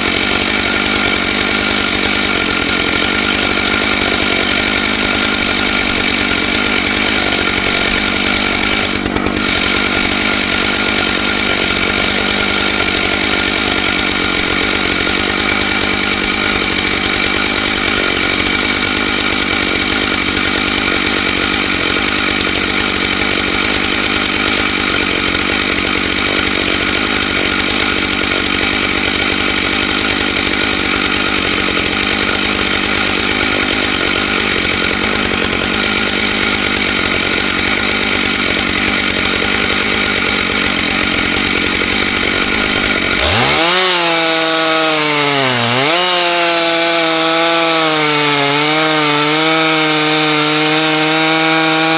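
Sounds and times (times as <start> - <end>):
chainsaw ripping log: 0.0 - 51.9.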